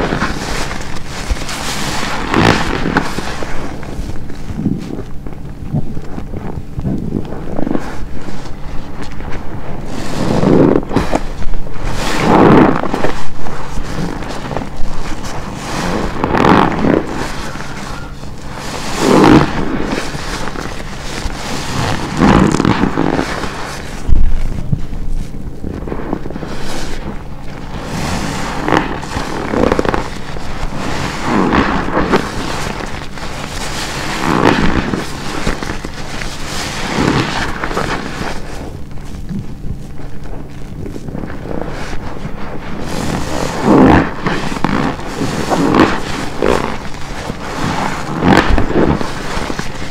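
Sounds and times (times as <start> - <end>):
wet sponge squelching: 0.0 - 49.9.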